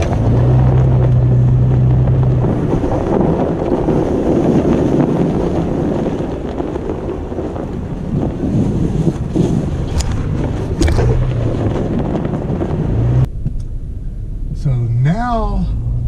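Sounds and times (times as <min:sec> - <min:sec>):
wind buffeting microphone: 0:00.0 - 0:14.0
low engine hum: 0:00.0 - 0:16.0
tyres rumbling on snow: 0:00.0 - 0:16.0.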